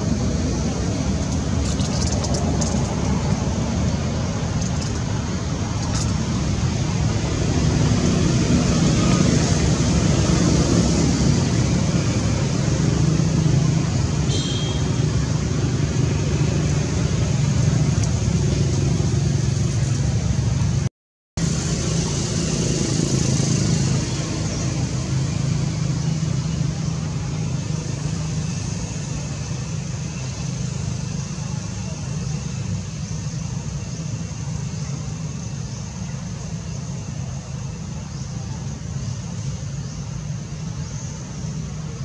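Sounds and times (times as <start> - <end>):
steady low rumble with hiss: 0.0 - 42.0.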